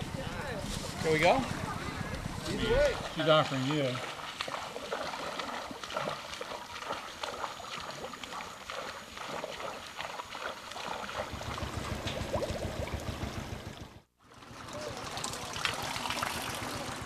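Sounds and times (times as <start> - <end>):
kayak paddle splashing: 0.0 - 17.0
running water rushing: 0.0 - 17.0.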